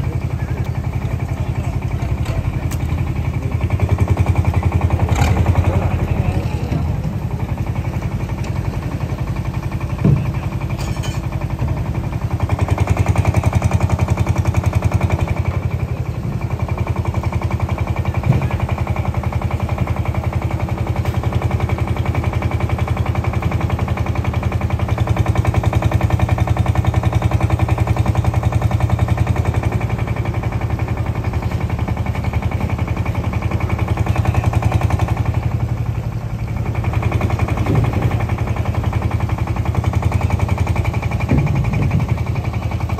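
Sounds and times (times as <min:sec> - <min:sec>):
diesel engine chugging: 0:00.0 - 0:42.9.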